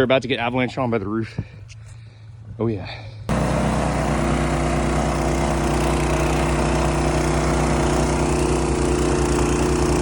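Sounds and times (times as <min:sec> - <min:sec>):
engine running steadily: 0:01.9 - 0:10.0.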